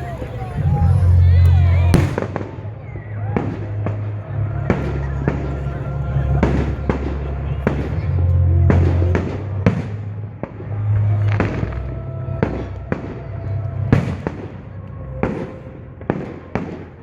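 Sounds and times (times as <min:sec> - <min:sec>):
low steady rumble: 0:00.0 - 0:16.6
fireworks bangs: 0:00.0 - 0:17.0.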